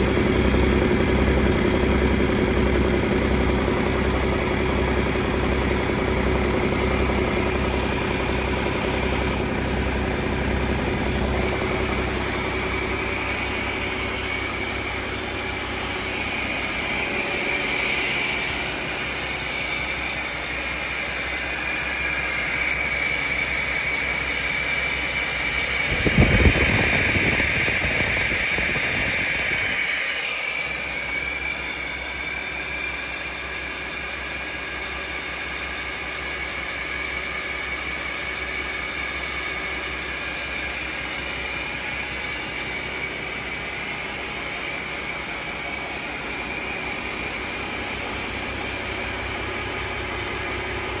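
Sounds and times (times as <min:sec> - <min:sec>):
diesel engine running: 0:00.0 - 0:51.0
turbocharger whine: 0:00.0 - 0:51.0.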